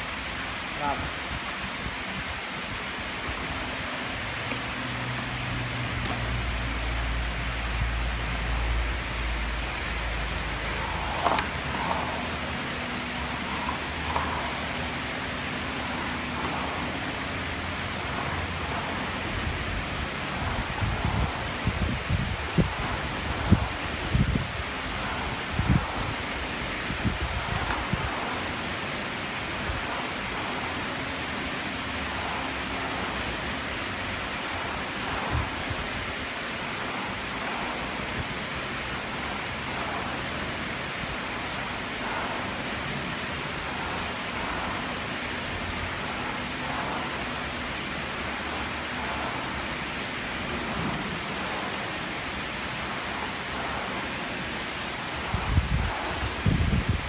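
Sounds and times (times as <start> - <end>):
rowing machine flywheel whirring: 0.0 - 57.0.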